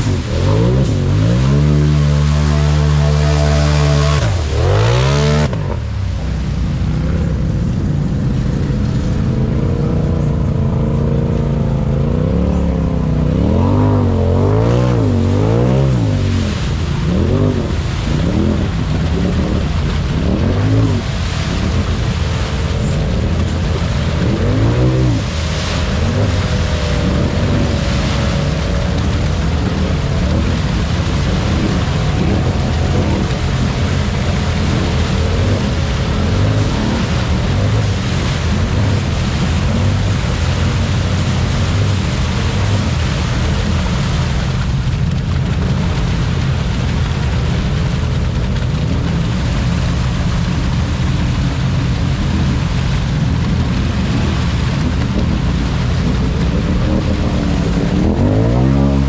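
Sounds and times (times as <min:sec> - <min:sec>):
engine revving: 0:00.0 - 0:59.0
tires churning in mud: 0:00.0 - 0:59.0.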